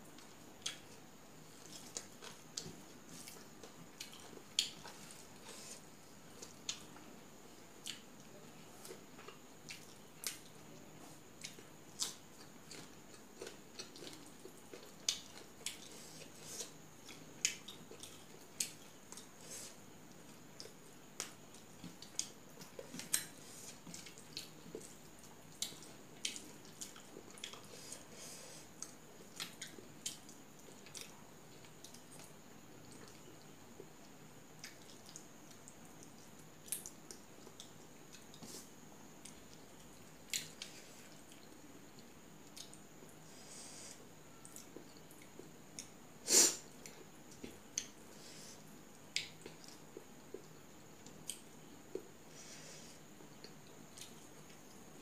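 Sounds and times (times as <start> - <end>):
faint high hiss: 0.0 - 55.0
person chewing with wet clicks: 0.1 - 7.1, 7.8 - 43.2, 44.0 - 46.0, 46.7 - 52.2, 53.1 - 55.0.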